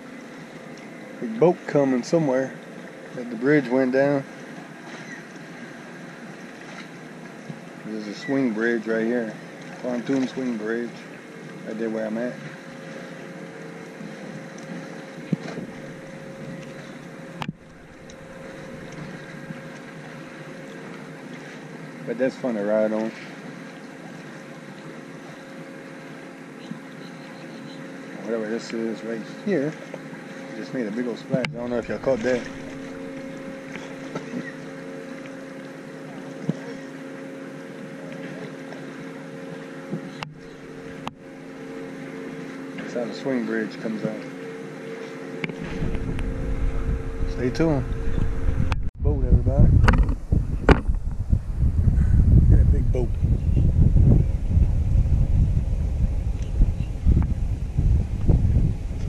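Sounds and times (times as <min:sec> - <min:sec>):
distant engine drone: 0:00.0 - 0:59.0.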